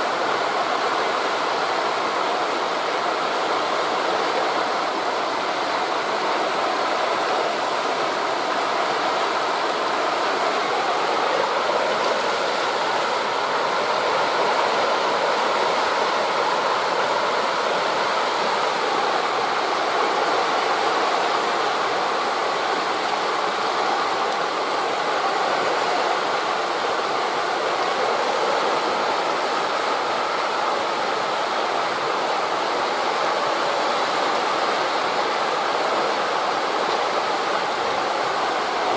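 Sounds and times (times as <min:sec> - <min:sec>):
waves breaking on beach: 0:00.0 - 0:38.9
wind through leaves: 0:00.0 - 0:38.9.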